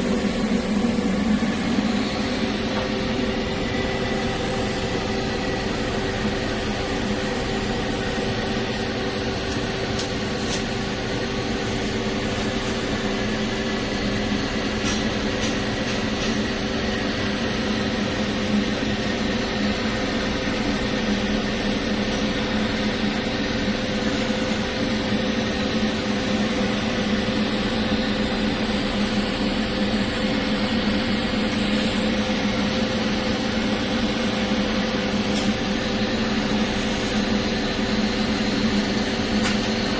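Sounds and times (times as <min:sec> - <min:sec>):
welding equipment hum and hiss: 0:00.0 - 0:39.9.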